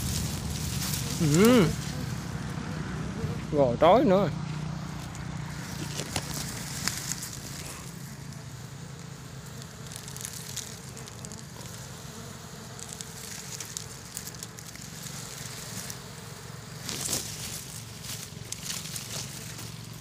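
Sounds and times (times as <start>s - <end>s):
dry leaves and twigs crackling: 0.0s - 3.5s, 4.4s - 20.0s
steady low hum: 0.0s - 20.0s.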